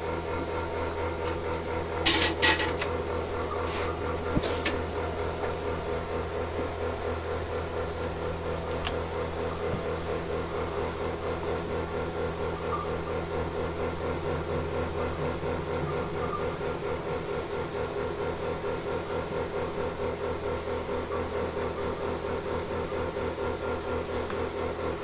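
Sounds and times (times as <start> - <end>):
milking machine pulsing: 0.0 - 25.0
vacuum pump motor hum: 0.0 - 25.0.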